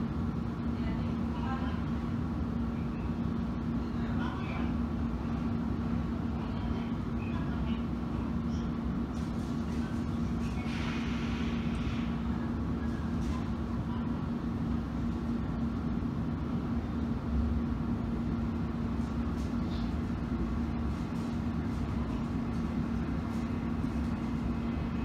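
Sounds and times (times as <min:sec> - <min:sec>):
constant hum: 0:00.0 - 0:25.0
train wheels rumbling on rail: 0:04.7 - 0:25.0.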